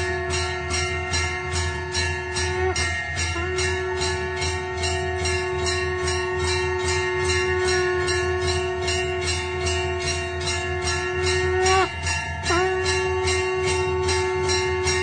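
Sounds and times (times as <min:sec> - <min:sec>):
bells struck rhythmically: 0:00.0 - 0:15.0
long held note: 0:00.0 - 0:15.0.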